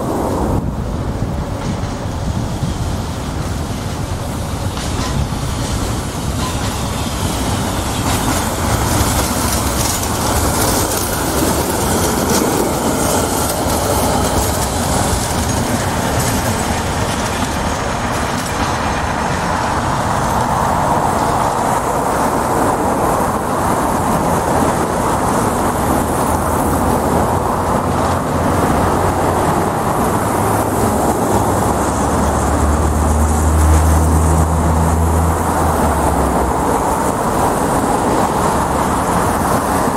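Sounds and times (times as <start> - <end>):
tram wheels rumbling on rails: 0.0 - 39.9.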